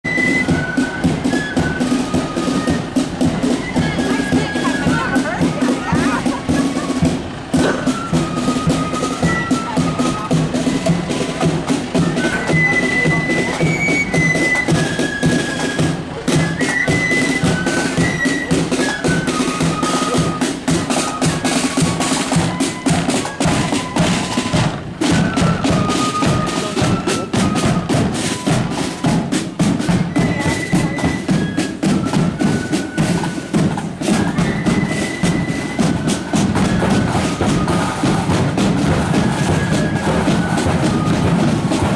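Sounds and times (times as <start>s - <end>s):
marching band playing: 0.0s - 41.9s
side drums and bass drum beat: 0.0s - 41.9s.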